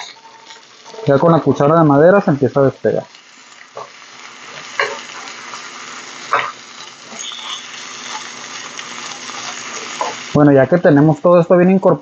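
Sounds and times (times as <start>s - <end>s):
wooden spoon scraping a wok: 0.0s - 2.5s, 3.1s - 10.3s
food sizzling in a wok: 0.0s - 12.0s.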